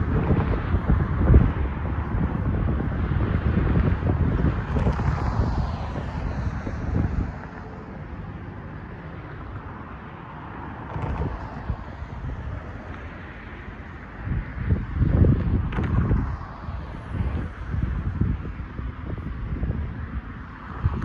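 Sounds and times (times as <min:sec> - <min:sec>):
road traffic passing: 0:00.0 - 0:21.0
wind buffeting microphone: 0:00.0 - 0:21.0.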